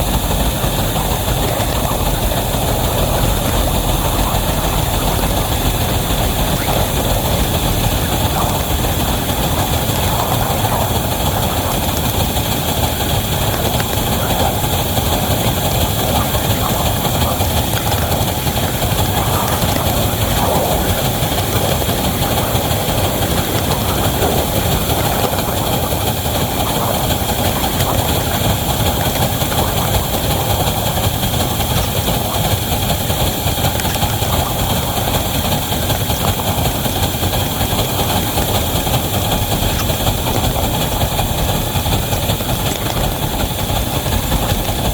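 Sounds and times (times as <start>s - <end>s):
locomotive hauling train: 0.0s - 44.9s.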